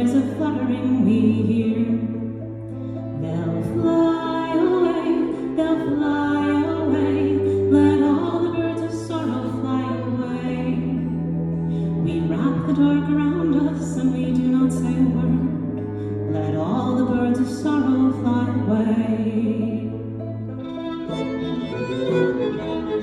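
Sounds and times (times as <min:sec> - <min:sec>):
sustained bass notes: 0:00.0 - 0:23.0.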